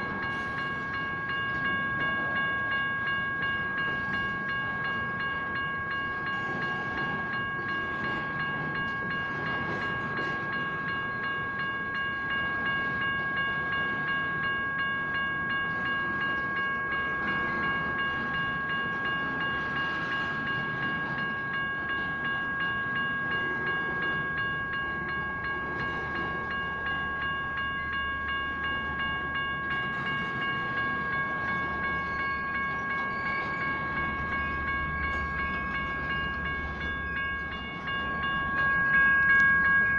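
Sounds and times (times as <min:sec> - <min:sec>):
crossing bell dinging: 0:00.0 - 0:39.9
train rumbling past: 0:00.0 - 0:39.9.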